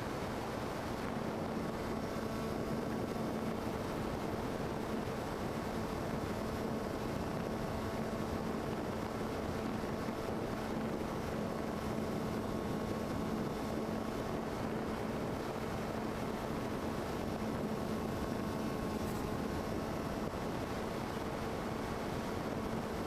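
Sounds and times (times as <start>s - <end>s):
model plane motor and propeller: 0.0s - 23.0s.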